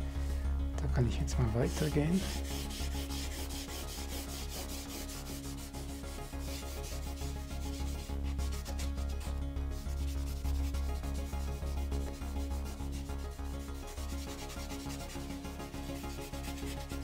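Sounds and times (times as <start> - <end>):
charcoal scratching on paper: 1.7 - 17.0.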